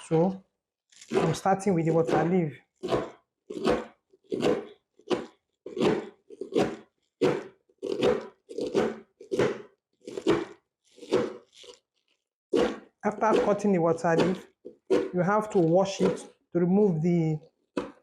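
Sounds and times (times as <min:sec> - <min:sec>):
knife chopping leaves: 0:01.0 - 0:11.8, 0:12.5 - 0:17.0.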